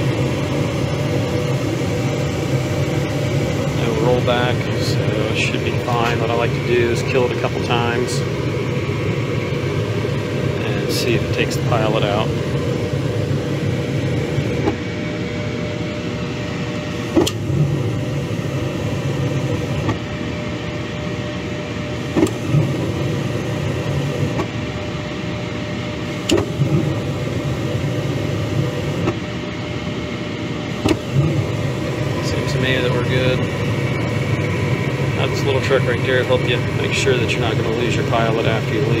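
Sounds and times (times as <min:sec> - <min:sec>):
furnace running hum: 0:00.0 - 0:39.0.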